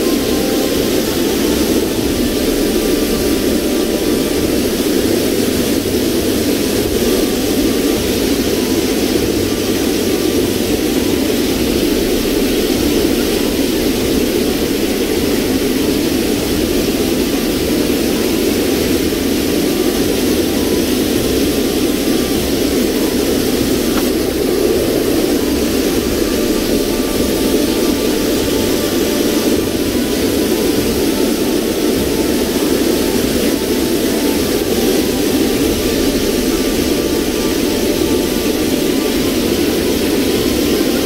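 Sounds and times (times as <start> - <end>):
river rapids rushing: 0.0 - 41.0.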